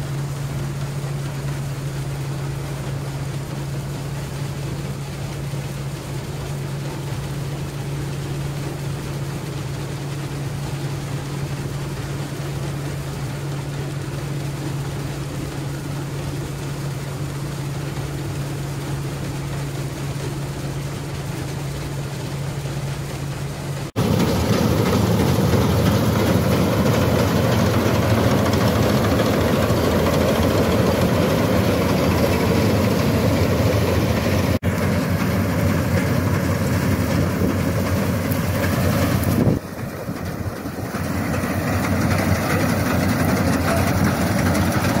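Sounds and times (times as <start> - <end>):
combine harvester engine droning: 0.0 - 45.0.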